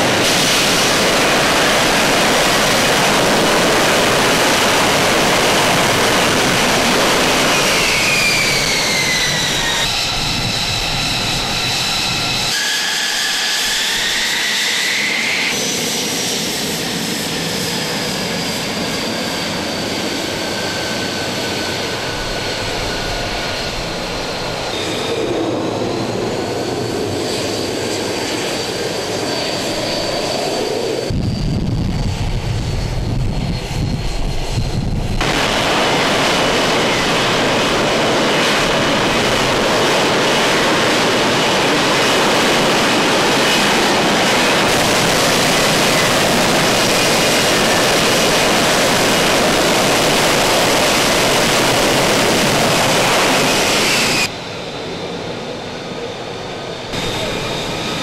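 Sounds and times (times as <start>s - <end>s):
jet engine whine and rush: 0.0s - 58.0s.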